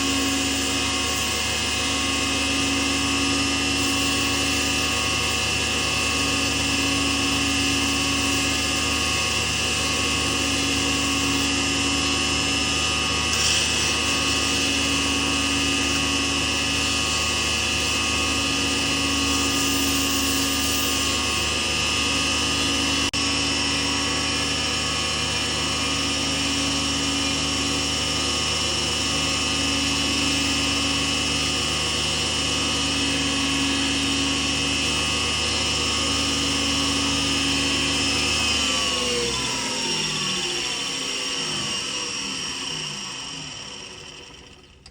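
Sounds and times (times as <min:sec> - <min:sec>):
lathe motor humming: 0:00.0 - 0:44.9.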